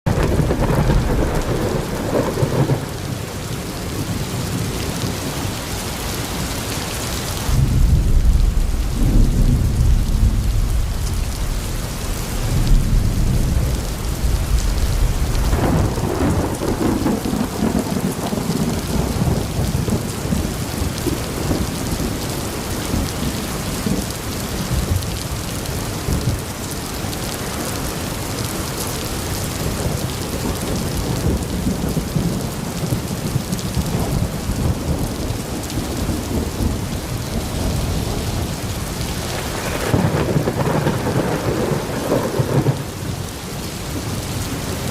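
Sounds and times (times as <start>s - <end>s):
heavy rain falling: 0.0s - 44.9s
thunder rumbling: 0.1s - 5.4s, 7.1s - 44.9s.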